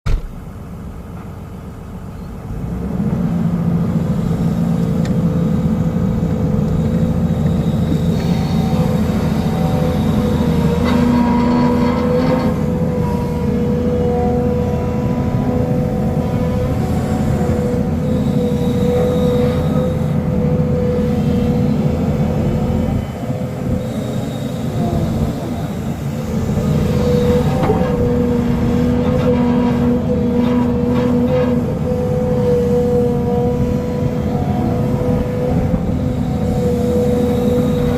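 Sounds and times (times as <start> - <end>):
excavator diesel engine humming: 0.1 - 37.9.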